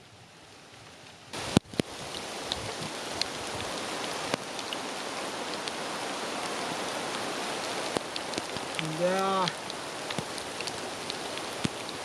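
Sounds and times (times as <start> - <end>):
snow ticking on surfaces: 1.0 - 12.0.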